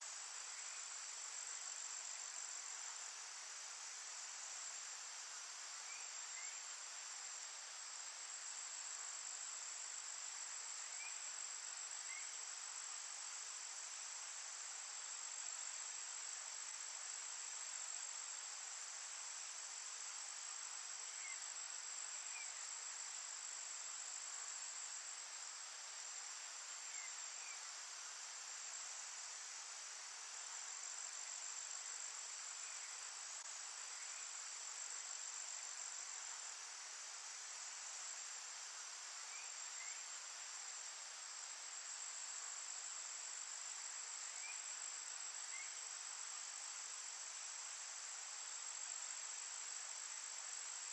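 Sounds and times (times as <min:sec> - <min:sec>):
soft hiss: 0:00.0 - 0:50.9
insect chorus trilling: 0:00.1 - 0:50.9.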